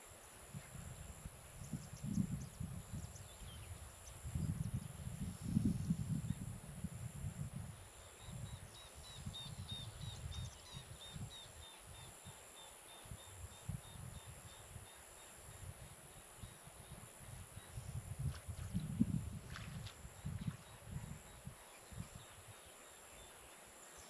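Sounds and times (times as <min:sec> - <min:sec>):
high insect drone: 0:00.0 - 0:24.0
wind buffeting microphone: 0:00.5 - 0:12.1, 0:13.1 - 0:22.7.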